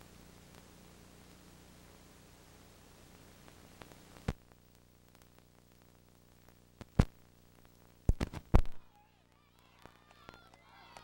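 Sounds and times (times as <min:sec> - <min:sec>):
steady hiss: 0:00.0 - 0:09.9
low electrical hum: 0:00.0 - 0:11.0.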